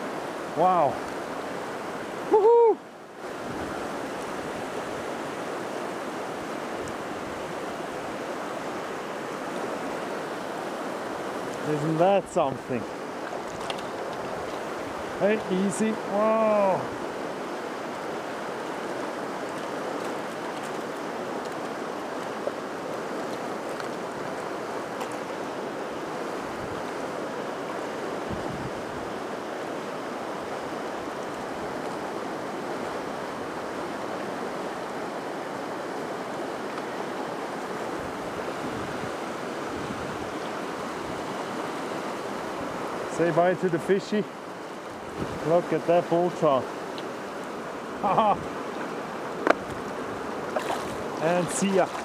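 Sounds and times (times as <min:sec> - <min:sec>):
river water over rocks: 0:00.0 - 0:52.0.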